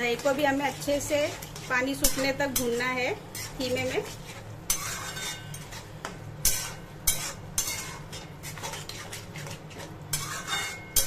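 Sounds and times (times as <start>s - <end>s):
metal spatula scraping a metal pan: 0.0s - 11.0s.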